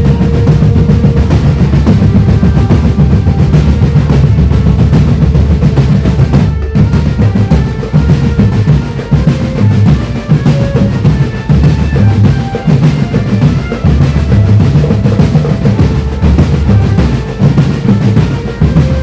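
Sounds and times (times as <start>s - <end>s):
faint melody line: 0.0s - 19.0s
marching drum band playing: 0.0s - 19.0s.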